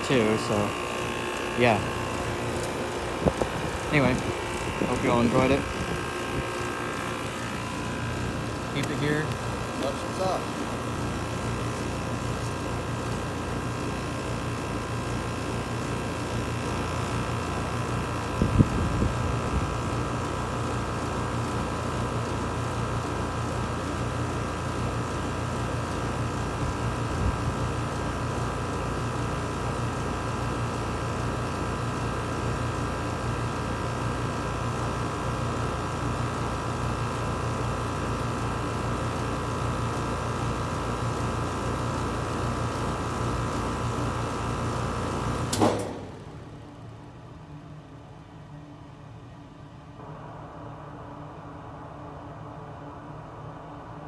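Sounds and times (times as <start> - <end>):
air conditioner compressor humming: 0.0 - 54.0
outdoor fan: 0.0 - 54.0.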